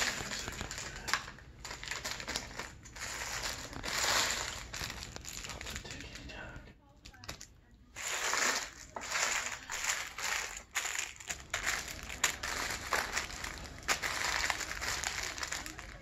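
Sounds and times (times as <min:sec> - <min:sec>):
plastic candy wrappers crinkling: 0:00.0 - 0:16.0.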